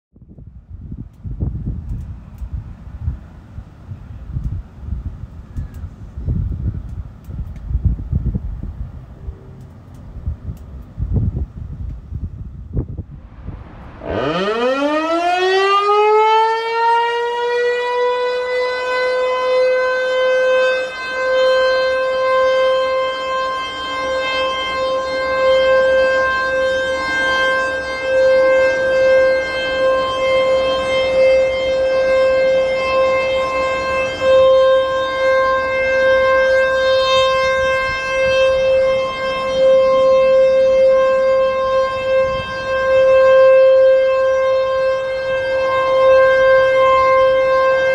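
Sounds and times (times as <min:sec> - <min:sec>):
rotating storm warning siren: 0:00.2 - 0:47.9.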